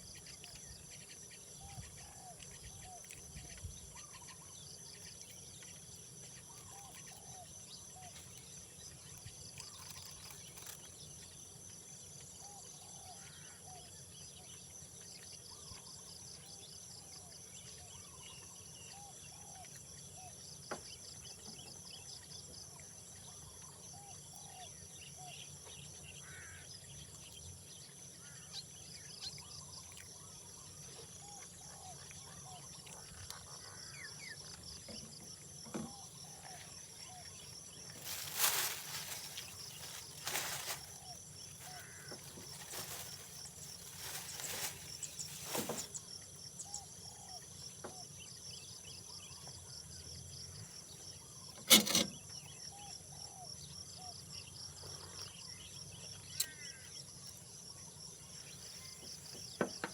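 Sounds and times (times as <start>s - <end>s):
faint chirping calls: 0.0s - 59.9s
insects trilling: 0.0s - 59.9s.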